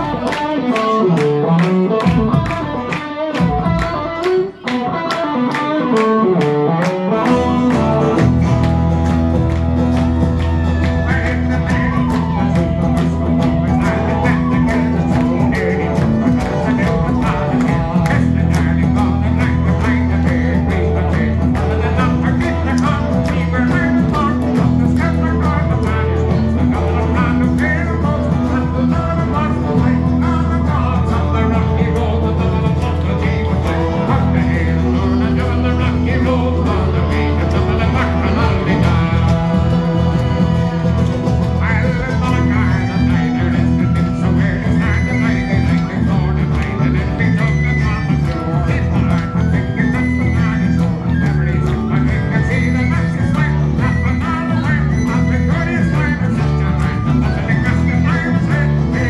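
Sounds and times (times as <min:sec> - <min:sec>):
bodhran drum beat: 0:00.0 - 0:04.9, 0:07.1 - 0:59.0
bass guitar: 0:00.0 - 0:59.0
guitars: 0:00.0 - 0:59.0.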